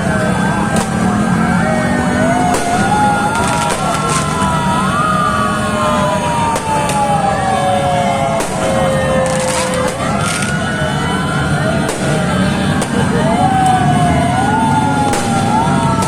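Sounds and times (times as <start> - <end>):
ambulance sirens wailing: 0.0 - 16.0.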